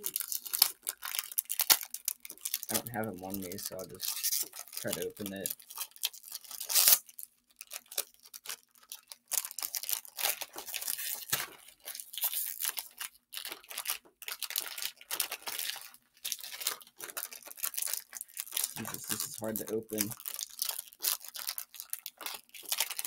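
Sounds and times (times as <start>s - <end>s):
plastic wrapping crinkling and tearing: 0.0s - 23.0s.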